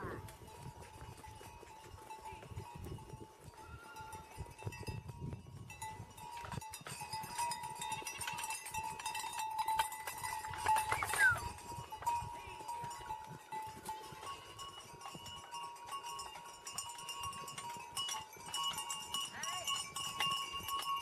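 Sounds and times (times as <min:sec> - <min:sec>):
goat bells clanking: 0:00.0 - 0:21.0.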